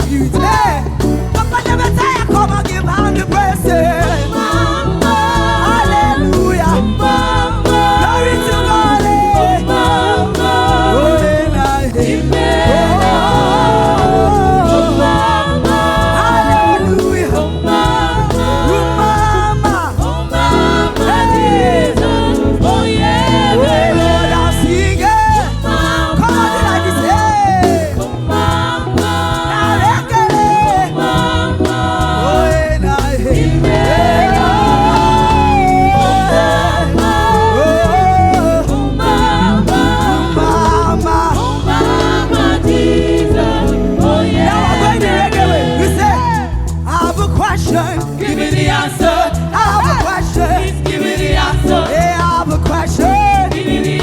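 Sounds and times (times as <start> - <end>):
band with heavy bass: 0.0 - 54.0
singers performing: 0.0 - 54.0.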